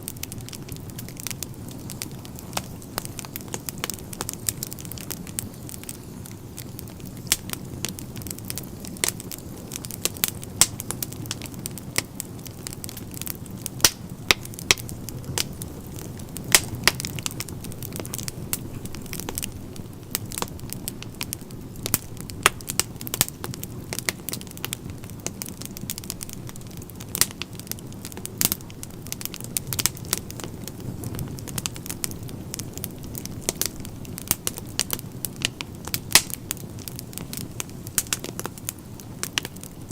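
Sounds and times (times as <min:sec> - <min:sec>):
low rumble of burning logs: 0:00.0 - 0:39.9
wood fire crackling and popping: 0:00.0 - 0:39.9.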